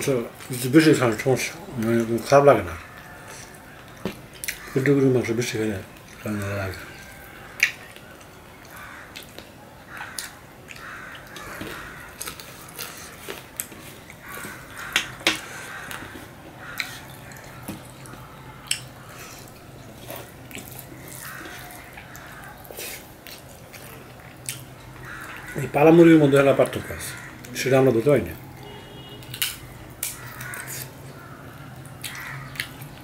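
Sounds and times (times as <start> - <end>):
wet squishing of food: 0.5 - 33.0.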